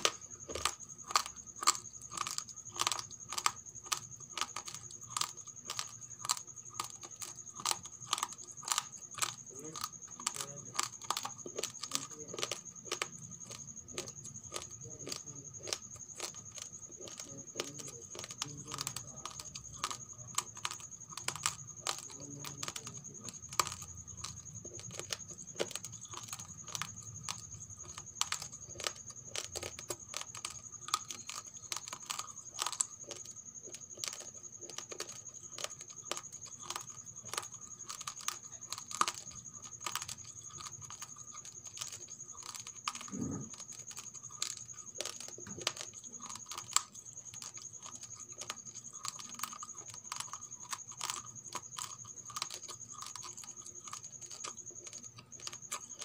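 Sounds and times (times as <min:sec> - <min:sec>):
rice grains crunching when chewed: 0:00.0 - 0:56.0.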